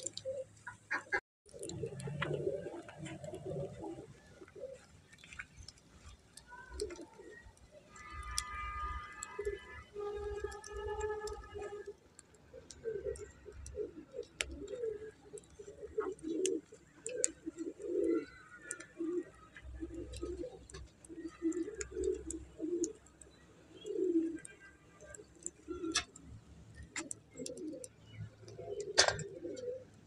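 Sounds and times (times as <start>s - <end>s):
faint clicks: 0.0s - 0.8s, 1.5s - 30.0s
pigeons cooing: 0.0s - 30.0s.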